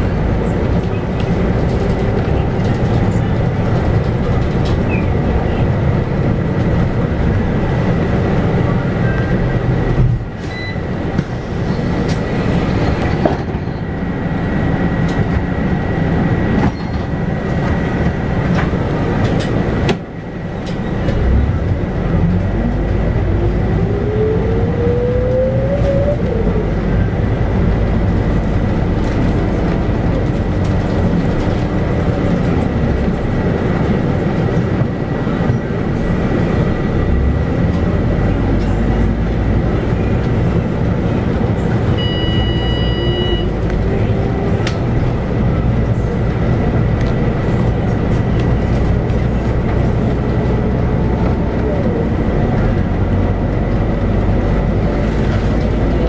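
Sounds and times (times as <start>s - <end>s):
bus diesel engine: 0.0s - 56.0s
road noise: 0.0s - 56.0s.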